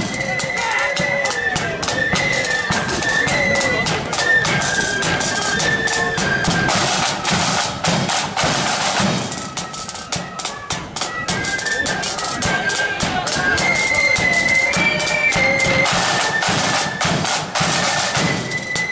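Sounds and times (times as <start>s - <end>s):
flutes playing a tune: 0.0s - 18.9s
rattling snare drums: 0.0s - 18.9s.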